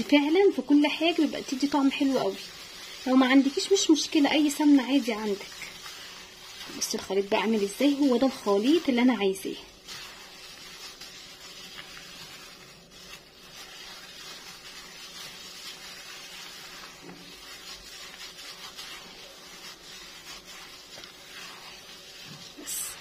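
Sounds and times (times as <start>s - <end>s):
gloved hand mixing batter: 0.0s - 23.0s.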